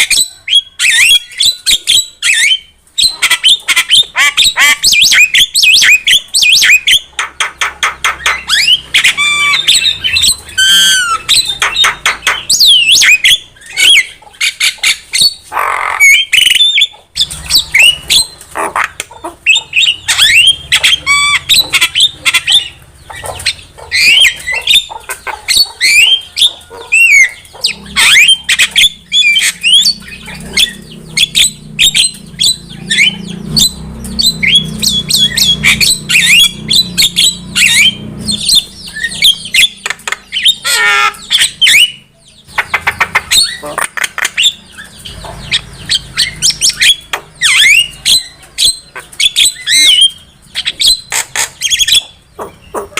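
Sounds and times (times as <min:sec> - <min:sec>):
myna bird singing: 0:00.0 - 0:52.9.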